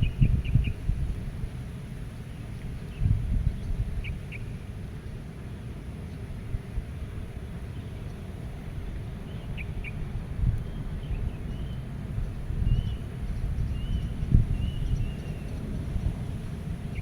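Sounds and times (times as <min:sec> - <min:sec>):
wind buffeting microphone: 0:00.0 - 0:05.0, 0:08.2 - 0:17.0.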